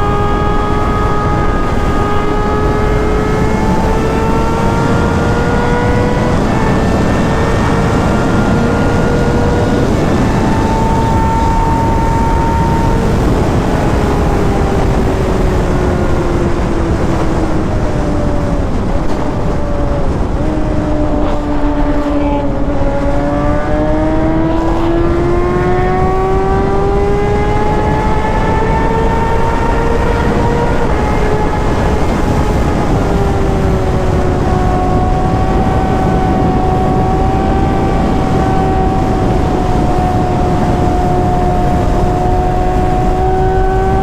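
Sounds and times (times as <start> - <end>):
motorcycle engine at speed: 0.0 - 44.0
wind noise: 0.0 - 44.0.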